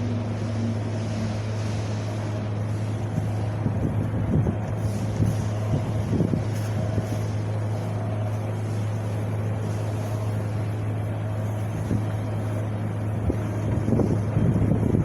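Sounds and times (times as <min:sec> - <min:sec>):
low rumbling drone: 0:00.0 - 0:15.0
wind blowing: 0:01.5 - 0:15.0.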